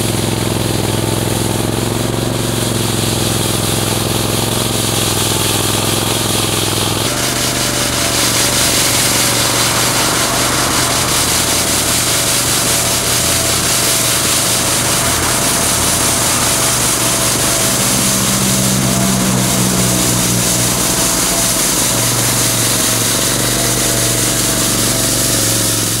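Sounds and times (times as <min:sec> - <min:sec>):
loader engine drone: 0:00.0 - 0:26.0
rotary brush sweeping asphalt: 0:00.0 - 0:26.0.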